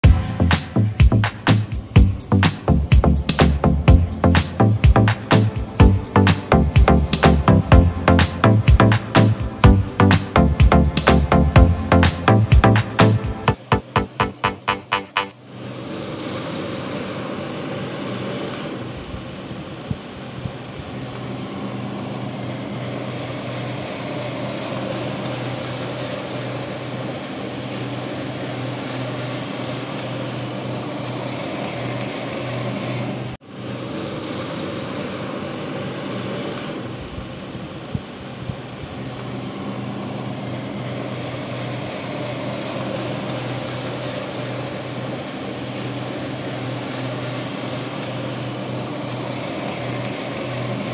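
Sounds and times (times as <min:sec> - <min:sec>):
floor polisher motor humming: 0:00.0 - 0:14.6, 0:19.6 - 0:50.9.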